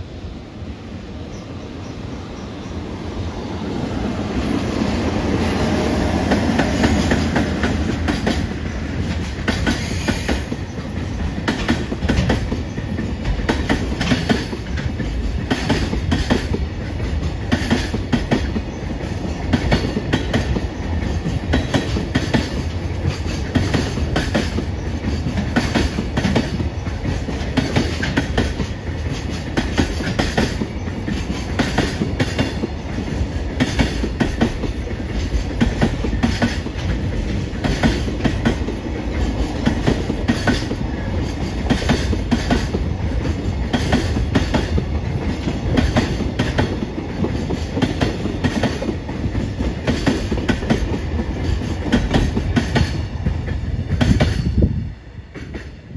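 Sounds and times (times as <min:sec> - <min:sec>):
low train rumble: 0:00.0 - 0:55.9
train wheels clacking over rail joints: 0:05.6 - 0:54.6.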